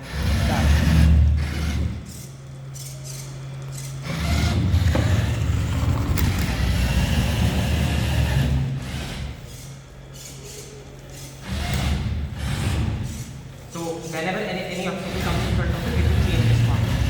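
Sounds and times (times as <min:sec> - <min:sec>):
robot vacuum motors humming: 0:00.0 - 0:17.0.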